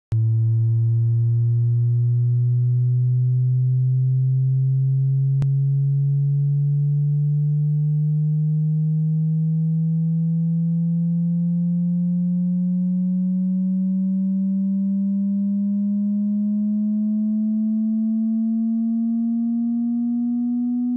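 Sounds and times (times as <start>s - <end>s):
rising sine tone sweep: 0.1s - 20.9s.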